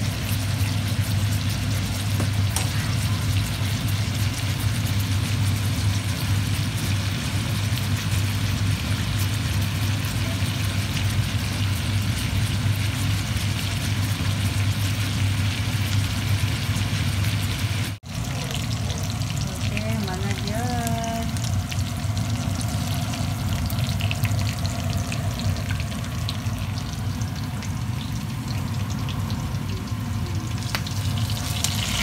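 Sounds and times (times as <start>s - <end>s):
steaks sizzling in a skillet: 0.0s - 29.9s, 30.5s - 32.0s.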